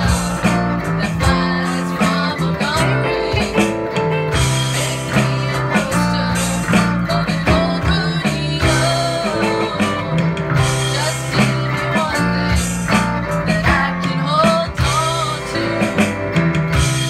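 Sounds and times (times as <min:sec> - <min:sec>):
electric guitar: 0:00.0 - 0:17.0
steady low bass notes: 0:00.0 - 0:17.0
strummed acoustic guitar: 0:00.0 - 0:17.0.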